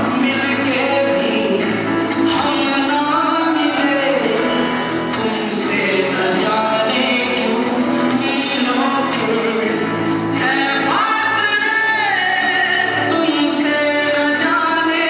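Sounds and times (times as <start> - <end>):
song with sung vocals: 0.0 - 15.0.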